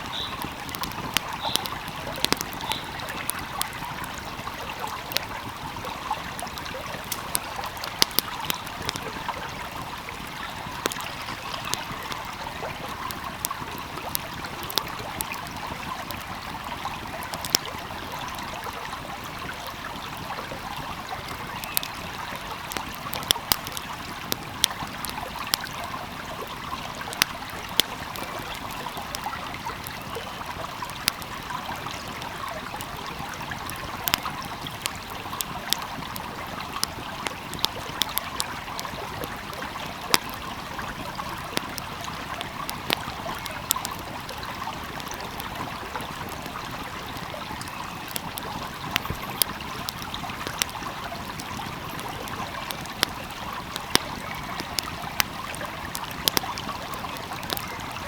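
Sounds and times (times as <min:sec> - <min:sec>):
stream babbling: 0:00.0 - 0:58.0
wood fire crackling and popping: 0:00.0 - 0:58.0.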